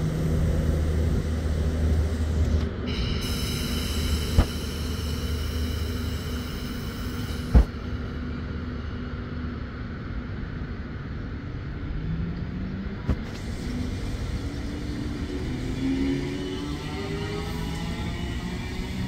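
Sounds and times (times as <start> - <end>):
electric train rumbling past: 0.0 - 19.0.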